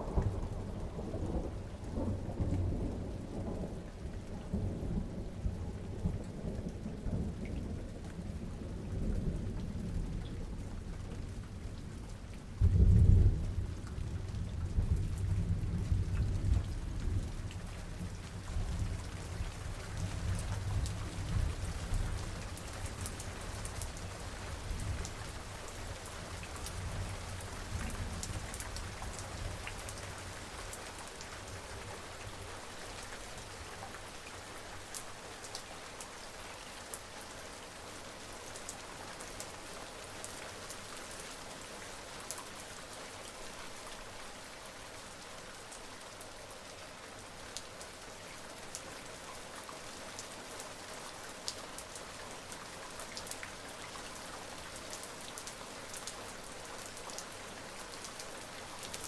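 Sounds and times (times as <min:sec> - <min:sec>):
raindrops pattering: 0:00.0 - 0:59.0
steady rain: 0:00.0 - 0:59.0.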